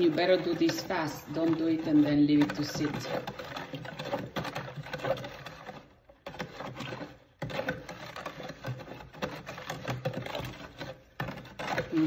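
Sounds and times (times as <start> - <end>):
spoon scraping plastic jar: 0.0 - 12.0.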